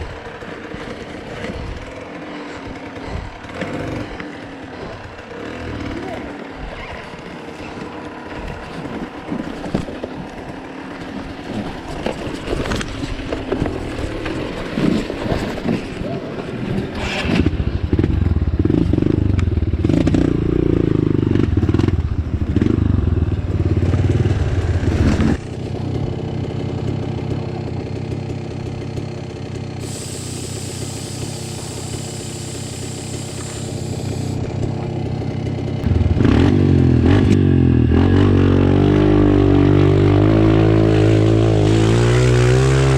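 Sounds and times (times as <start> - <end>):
off-road motorcycle engine revving: 0.0 - 42.9.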